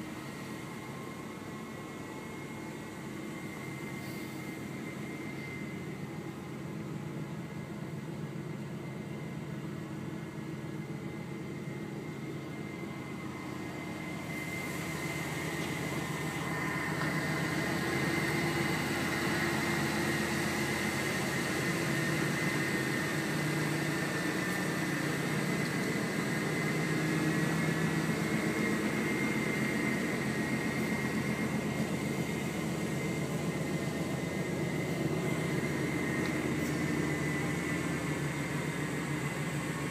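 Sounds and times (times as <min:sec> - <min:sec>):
high even whine: 0:00.0 - 0:39.9
mechanical hum: 0:00.0 - 0:39.9.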